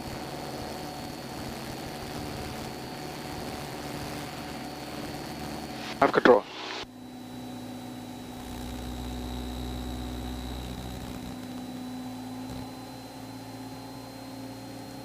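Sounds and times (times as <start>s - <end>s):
airplane engine and propeller droning: 0.0s - 15.0s
thin high whine: 0.6s - 15.0s.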